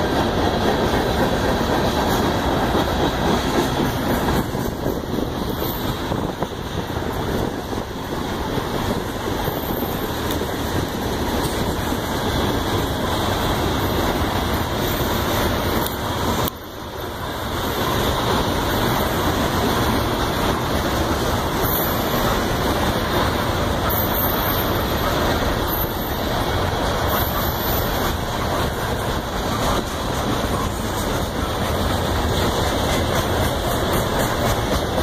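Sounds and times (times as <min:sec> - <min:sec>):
train wheels rolling on rails: 0:00.0 - 0:35.0.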